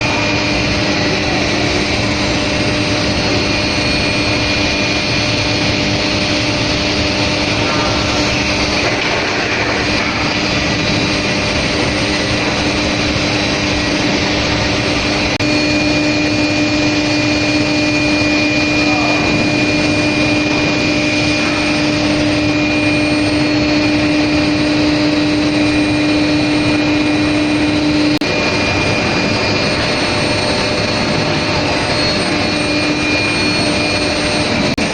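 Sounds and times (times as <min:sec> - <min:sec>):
loud machine noise: 0:00.0 - 0:34.9
low hum: 0:00.0 - 0:34.9.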